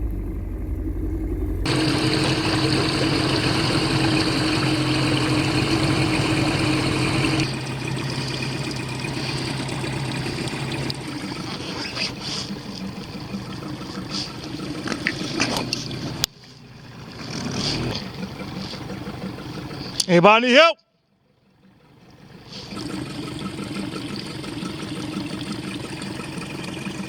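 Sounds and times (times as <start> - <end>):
water washing: 0.0 - 20.1, 22.0 - 27.0
vehicle engine humming: 0.0 - 20.3, 21.1 - 27.0.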